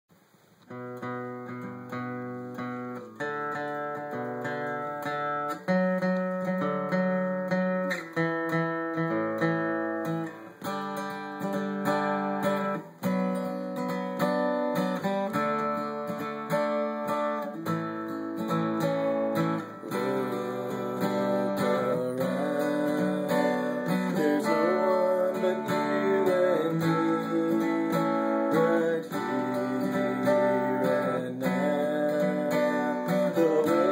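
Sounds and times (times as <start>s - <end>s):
acoustic guitar chords: 0.2s - 33.9s.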